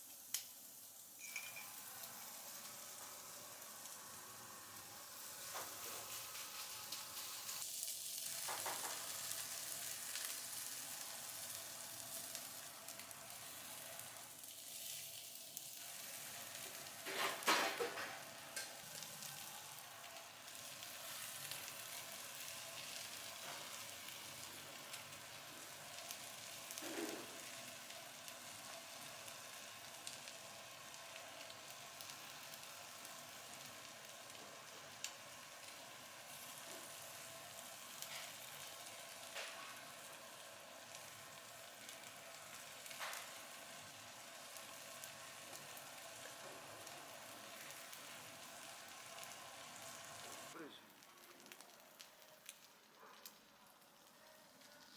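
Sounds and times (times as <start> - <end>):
food sizzling: 0.0 - 54.9.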